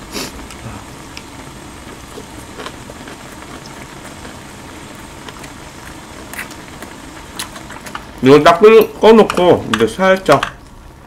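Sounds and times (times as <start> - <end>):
broth boiling in a pot: 0.0 - 11.0.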